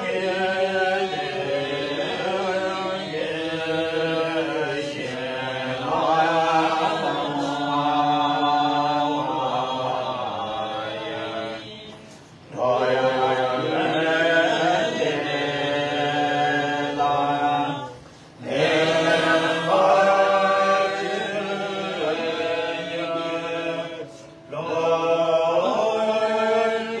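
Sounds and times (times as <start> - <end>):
melodic prayer chanting: 0.0 - 27.0.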